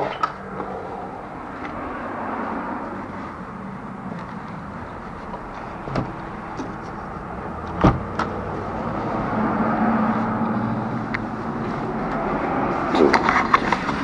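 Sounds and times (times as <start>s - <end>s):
car engine passing: 0.0s - 14.0s
street traffic noise: 0.0s - 14.0s.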